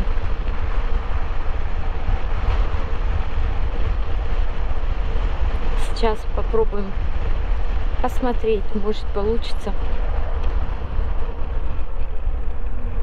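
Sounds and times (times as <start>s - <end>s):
motorcycle engine hum: 0.0s - 13.0s
wind buffeting microphone: 0.0s - 13.0s.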